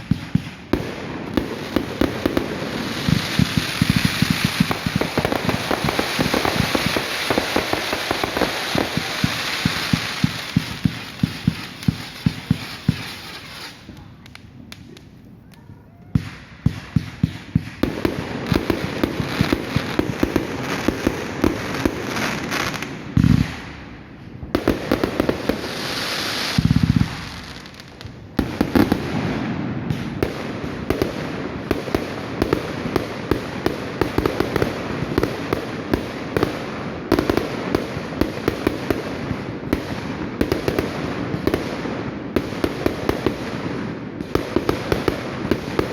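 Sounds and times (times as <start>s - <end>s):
firework cracks and pops: 0.0s - 45.9s
loud firework blasts: 0.0s - 45.9s.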